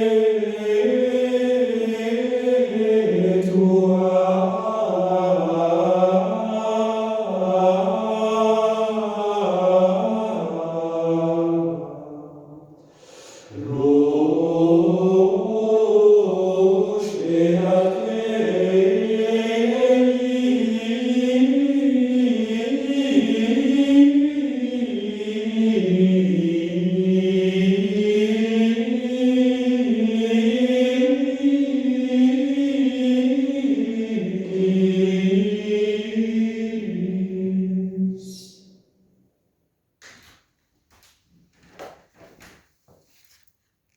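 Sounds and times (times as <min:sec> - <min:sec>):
choir singing over loudspeakers: 0:00.0 - 0:12.4, 0:13.4 - 0:38.6.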